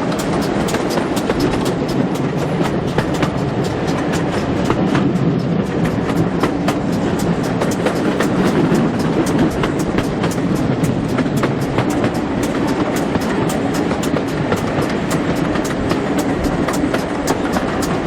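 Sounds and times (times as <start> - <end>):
sharp clicks and knocks: 0.0 - 18.0
train wheels rumbling on rails: 0.0 - 18.0.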